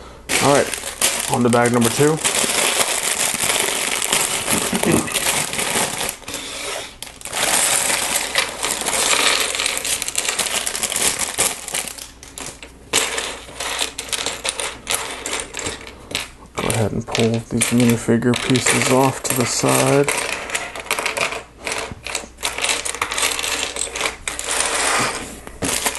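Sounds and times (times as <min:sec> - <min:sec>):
clicks of plastic pieces: 0:00.3 - 0:06.4, 0:07.0 - 0:24.6
plastic pieces clattering: 0:00.3 - 0:25.9.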